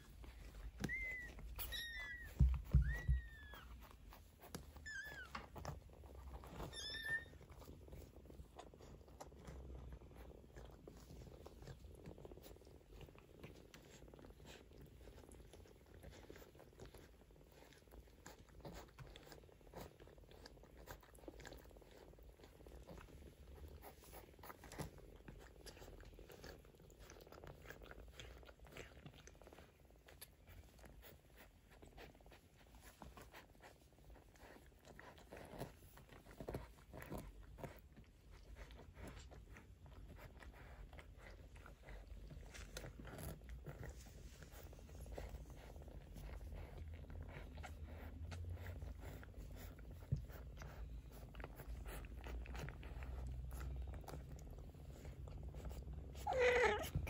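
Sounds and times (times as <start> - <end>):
faint low rumble: 0.0 - 57.0
kittens suckling: 0.0 - 57.0.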